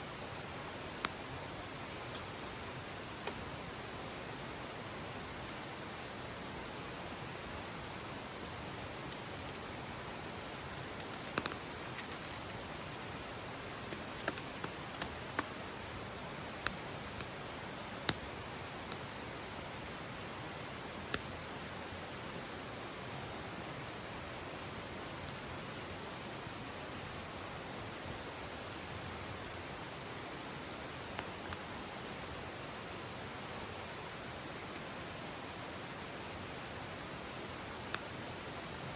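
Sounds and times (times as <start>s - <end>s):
campfire crackling and popping: 0.0s - 4.8s, 7.2s - 38.9s
steady fire hiss: 0.0s - 38.9s.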